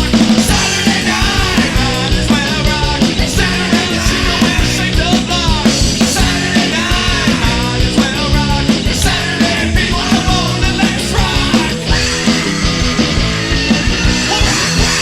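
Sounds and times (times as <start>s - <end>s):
indie rock band playing: 0.0s - 15.0s
steady drum beat: 0.0s - 15.0s.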